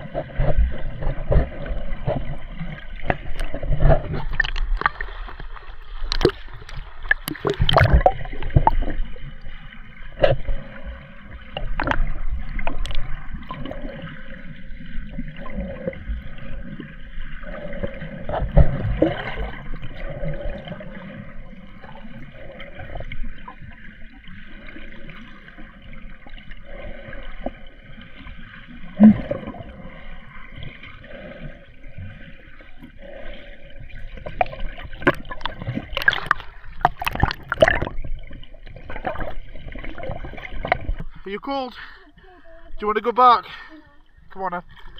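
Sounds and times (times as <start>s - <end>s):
muffled underwater sloshing: 0.0s - 44.9s.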